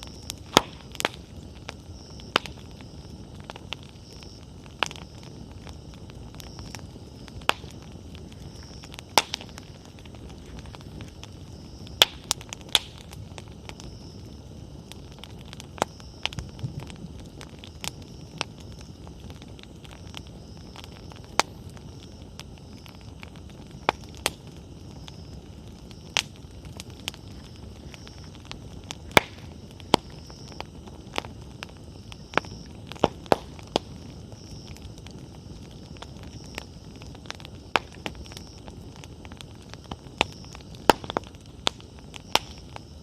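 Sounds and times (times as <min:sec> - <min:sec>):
campfire pops and crackles: 0:00.0 - 0:43.0
low rush of flame: 0:00.0 - 0:43.0.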